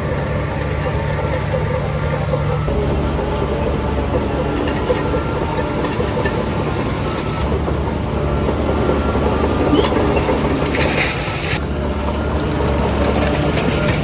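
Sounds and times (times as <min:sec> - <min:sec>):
bulldozer diesel engine: 0:00.0 - 0:14.0
rattling clatter of metal: 0:00.0 - 0:14.0.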